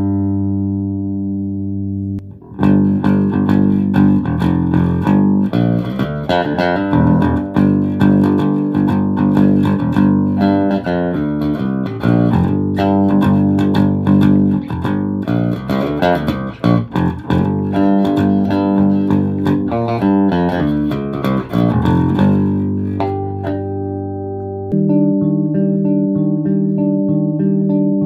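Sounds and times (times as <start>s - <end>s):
electric bass plucked notes: 0.0s - 28.0s.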